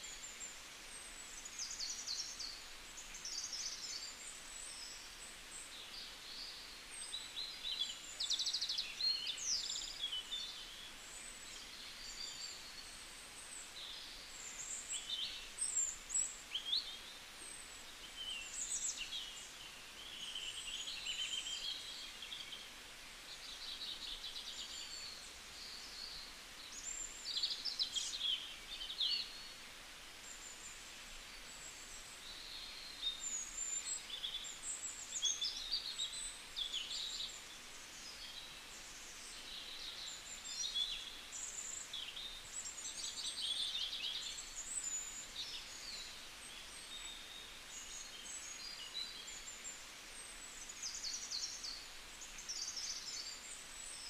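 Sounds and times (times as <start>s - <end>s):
faint background noise: 0.0s - 54.0s
small birds chirping: 0.0s - 54.0s.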